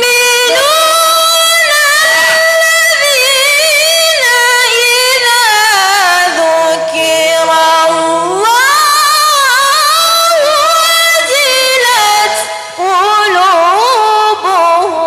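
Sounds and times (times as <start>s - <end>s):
woman reciting melodically: 0.0s - 15.0s.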